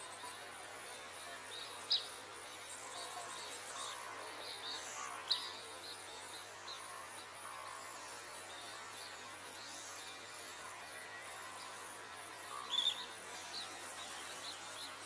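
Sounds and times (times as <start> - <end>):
high insect trill: 0.0 - 15.0.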